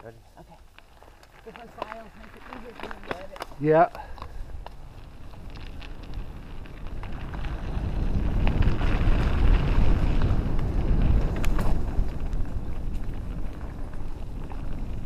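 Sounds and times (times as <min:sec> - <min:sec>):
bike clicks and rattles: 0:00.6 - 0:15.0
wind buffeting microphone: 0:00.8 - 0:15.0.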